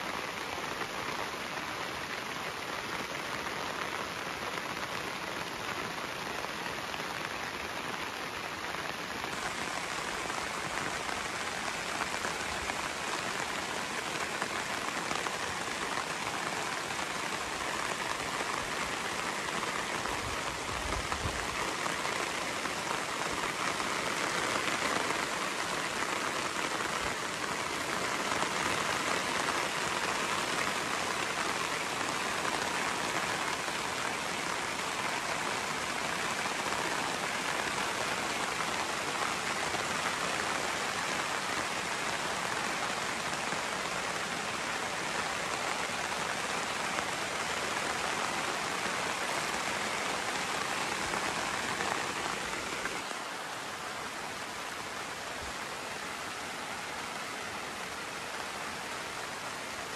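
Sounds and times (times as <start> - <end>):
heavy rain on a tarp: 0.0 - 59.9.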